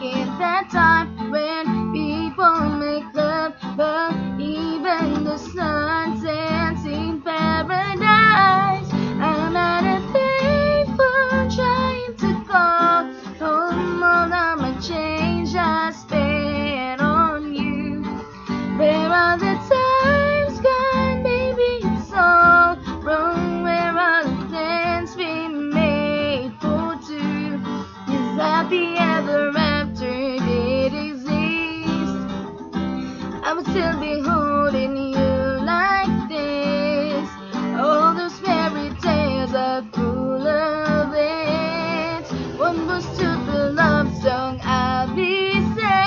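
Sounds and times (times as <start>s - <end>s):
strummed acoustic guitar: 0.0s - 46.0s
woman singing: 0.0s - 46.0s.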